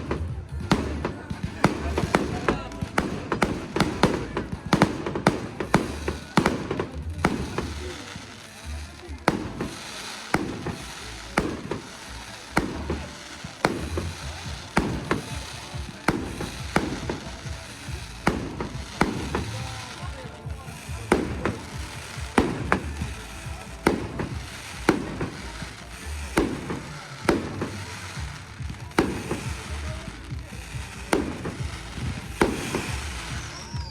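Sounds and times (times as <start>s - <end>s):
fireworks shells bursting with bangs: 0.0s - 33.9s
small firework pops: 0.0s - 33.9s.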